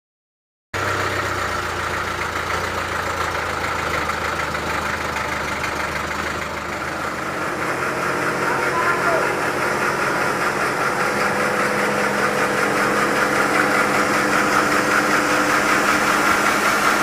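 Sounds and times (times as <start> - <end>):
sawmill machinery running: 0.8 - 17.0.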